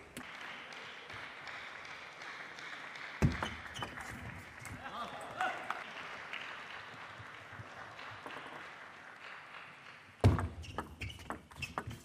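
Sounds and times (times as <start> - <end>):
sports hall ambience: 0.0 - 12.0.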